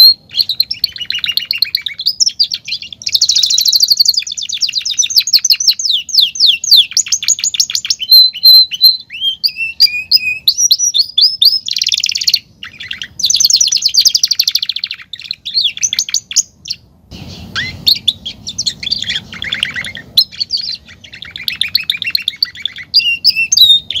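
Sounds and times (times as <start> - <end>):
canary singing trills and whistles: 0.0 - 24.0.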